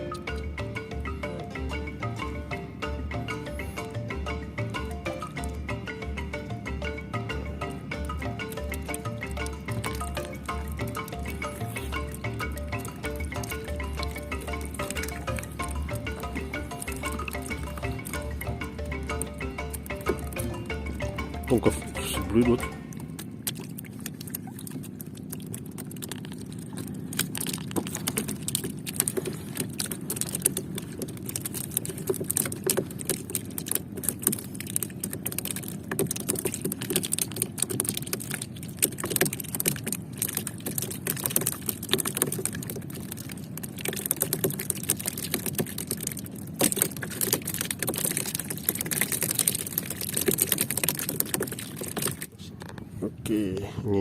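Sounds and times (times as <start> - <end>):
rapid clicking: 0.0 - 52.4
boat engine running: 0.0 - 54.0.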